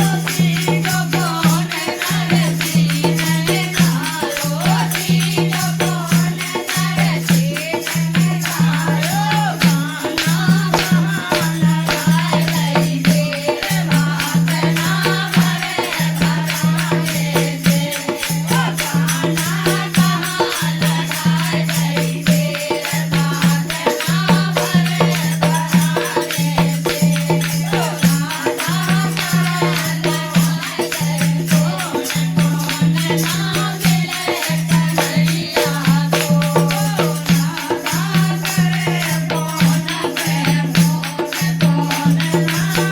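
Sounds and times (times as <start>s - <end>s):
fast jingling percussion: 0.0s - 42.9s.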